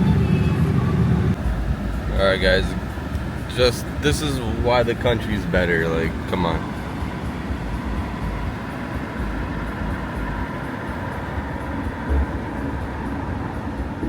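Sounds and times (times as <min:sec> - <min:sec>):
vehicle low rumble: 0:00.0 - 0:14.0.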